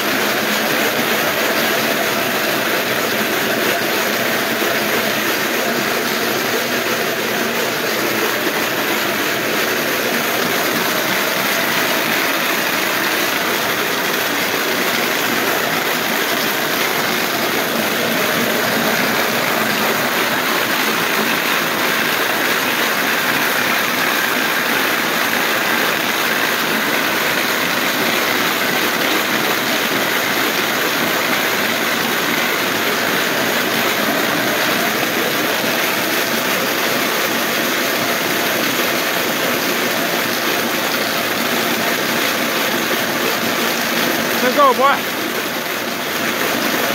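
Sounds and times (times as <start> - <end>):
treadmill belt rolling rumble: 0.0 - 37.6.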